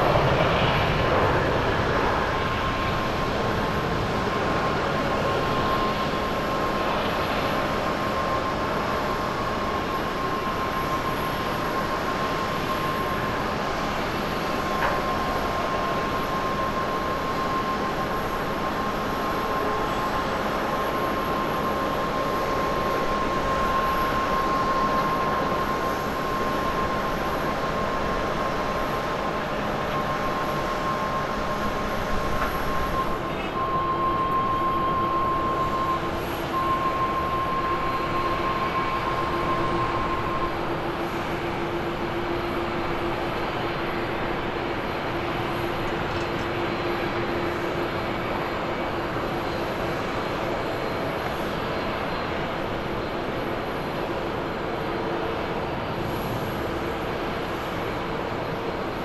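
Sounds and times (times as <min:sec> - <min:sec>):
high engine whine: 0:00.0 - 0:59.0
jet engines running: 0:00.0 - 0:59.0.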